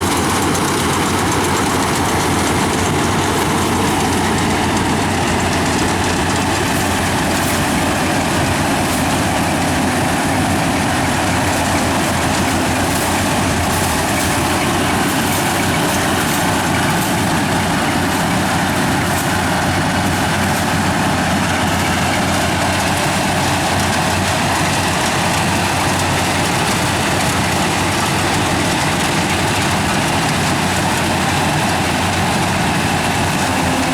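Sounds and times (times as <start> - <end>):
combine harvester engine running: 0.0 - 33.9.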